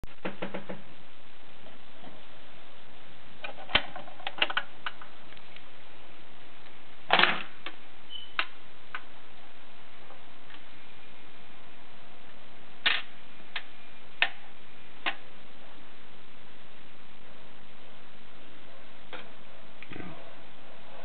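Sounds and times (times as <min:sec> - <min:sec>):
steady hiss: 0:00.1 - 0:21.0.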